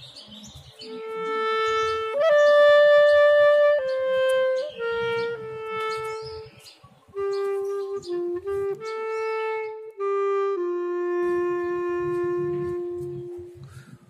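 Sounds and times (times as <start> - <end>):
slow wind instrument melody: 0.5 - 14.0.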